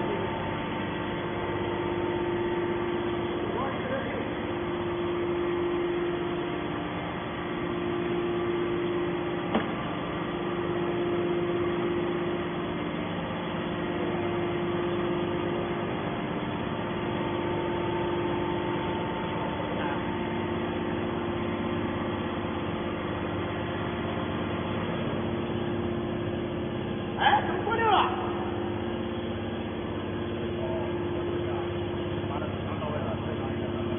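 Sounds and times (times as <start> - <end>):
hydraulic baler humming: 0.0 - 33.9.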